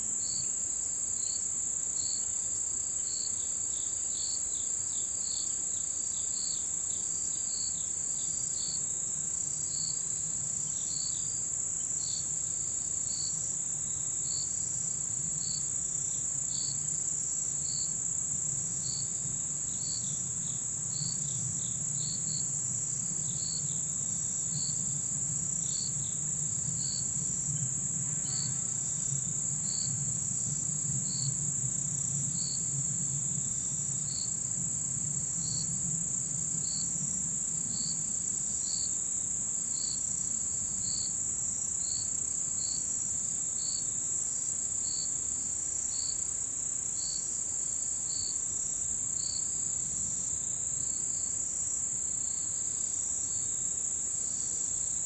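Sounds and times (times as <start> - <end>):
lower insect chirp: 0.0 - 55.0.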